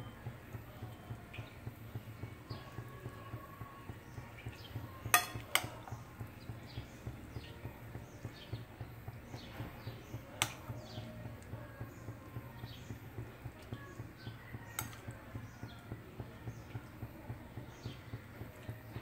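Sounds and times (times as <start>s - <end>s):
steady low hum: 0.0s - 19.0s
utensil clinking against cookware: 0.6s - 19.0s.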